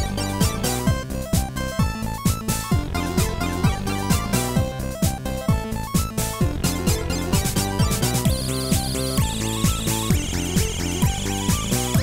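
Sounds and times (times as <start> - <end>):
electronic music with falling bass: 0.0 - 12.0.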